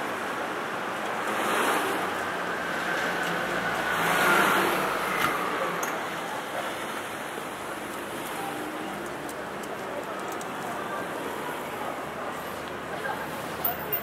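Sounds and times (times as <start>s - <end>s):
busy street traffic: 0.0s - 14.0s.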